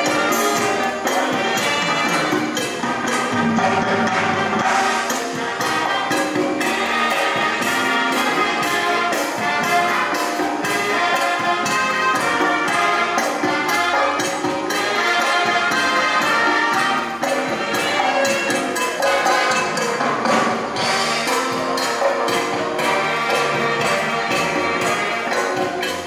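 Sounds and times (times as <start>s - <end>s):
latin dance music with brass: 0.0s - 26.0s.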